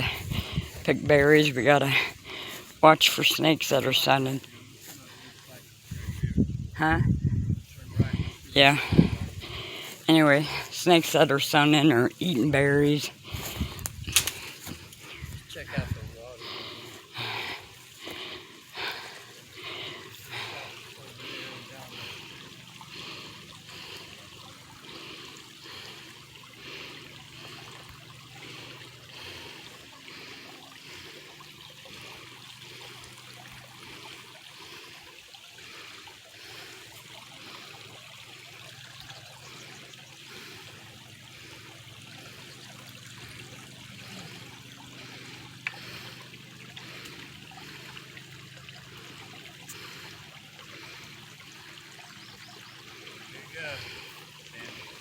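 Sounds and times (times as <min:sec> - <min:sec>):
stream trickling and gurgling: 0:00.0 - 0:55.0.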